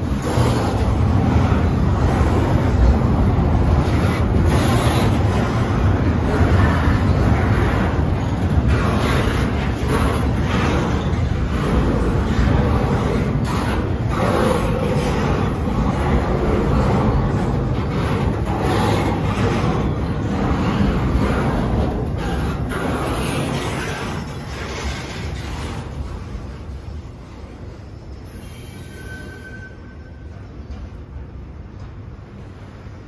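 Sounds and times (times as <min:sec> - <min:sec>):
freight train rolling past: 0:00.0 - 0:33.0
steel wheels clattering on rails: 0:00.0 - 0:33.0.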